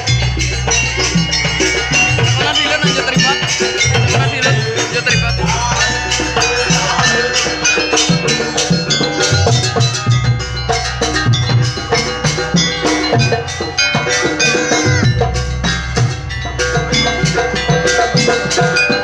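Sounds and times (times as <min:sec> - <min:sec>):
drums: 0:00.0 - 0:19.0
ringing metal gong-chimes: 0:00.0 - 0:19.0.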